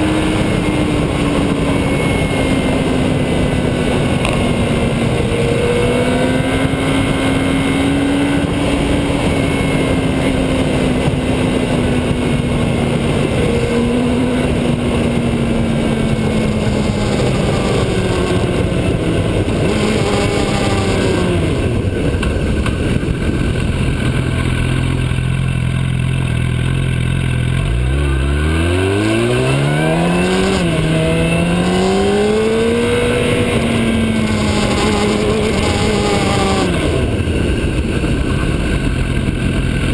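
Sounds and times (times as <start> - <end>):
wind noise: 0.0 - 25.7, 28.0 - 39.9
motorcycle engine revving: 0.0 - 39.9.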